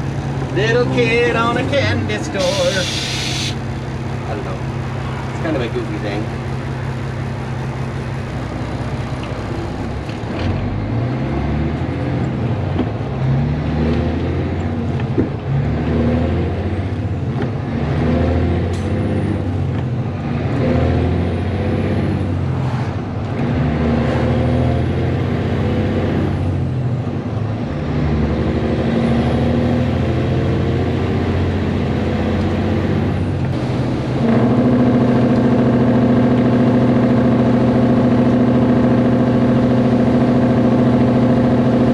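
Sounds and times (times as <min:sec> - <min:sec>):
straight-piped diesel truck engine: 0:00.0 - 0:41.9.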